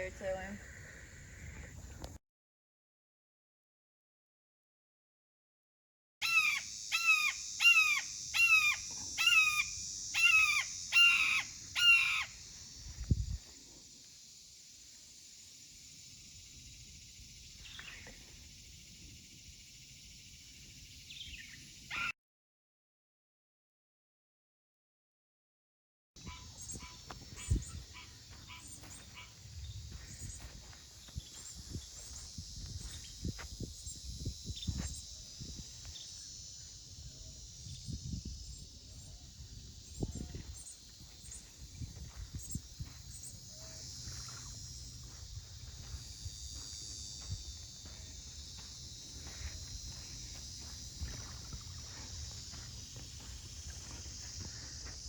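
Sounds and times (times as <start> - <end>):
insect chorus: 0.0 - 2.2, 6.2 - 22.2, 26.2 - 55.0.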